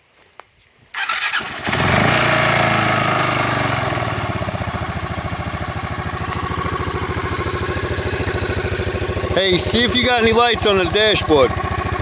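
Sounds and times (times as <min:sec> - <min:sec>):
scooter engine starting and idling: 0:01.0 - 0:12.0.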